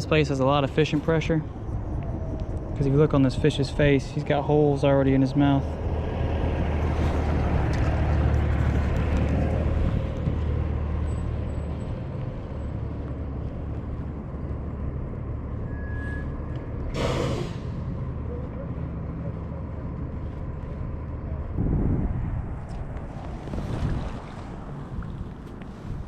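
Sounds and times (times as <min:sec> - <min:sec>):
wind rumbling on microphone: 0:00.0 - 0:15.7, 0:19.4 - 0:26.0.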